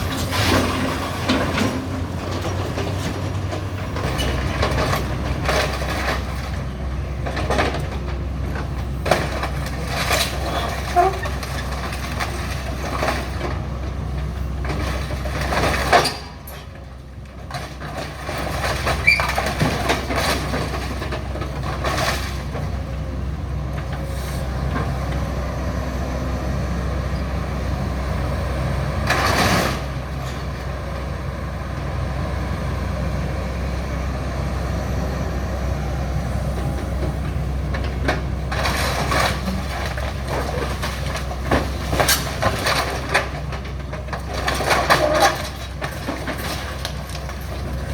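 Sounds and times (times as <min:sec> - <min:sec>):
demolition crunches and knocks: 0:00.0 - 0:25.7, 0:28.1 - 0:32.4, 0:35.8 - 0:47.9
excavator running: 0:00.0 - 0:47.9.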